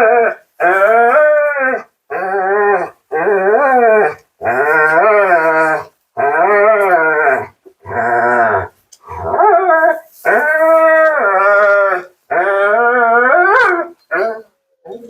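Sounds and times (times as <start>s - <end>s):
husky howling: 0.0s - 15.0s.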